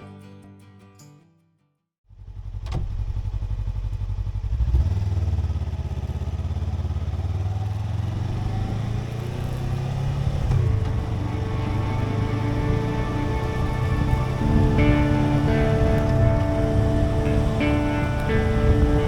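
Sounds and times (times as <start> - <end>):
motorcycle engine droning: 2.2 - 19.0.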